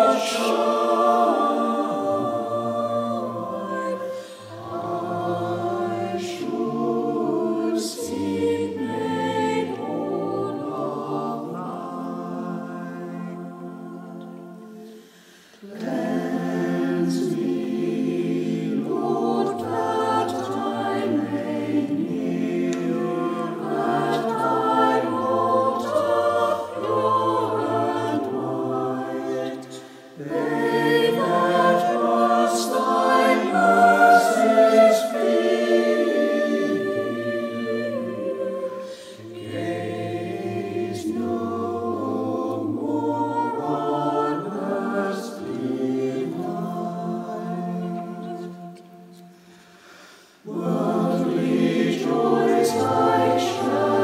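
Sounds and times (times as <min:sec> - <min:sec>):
church choir singing a hymn: 0:00.0 - 0:54.0.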